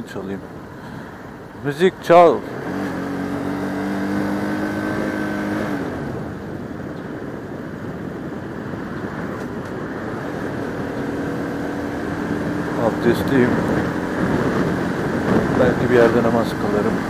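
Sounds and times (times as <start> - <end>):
wind and road rush: 0.0 - 17.0
motorcycle engine running: 2.4 - 17.0.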